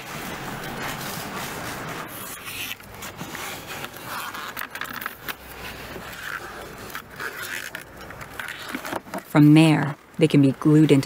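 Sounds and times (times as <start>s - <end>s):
plastic film rustling: 0.0s - 11.0s.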